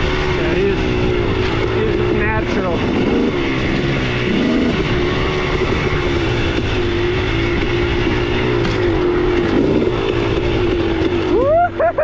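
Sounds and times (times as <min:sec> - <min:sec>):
rough rushing noise: 0:00.0 - 0:11.6
dirt bike engine running: 0:00.0 - 0:12.0.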